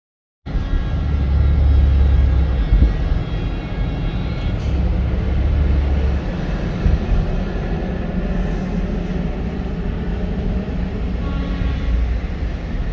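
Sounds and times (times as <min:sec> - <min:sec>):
vehicle road and engine rumble: 0:00.5 - 0:12.9.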